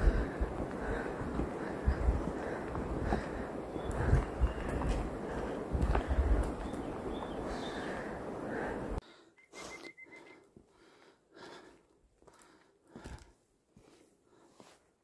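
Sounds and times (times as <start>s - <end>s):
footsteps on forest trail: 0.0s - 9.0s, 9.6s - 14.9s
heavy breathing: 0.0s - 14.8s.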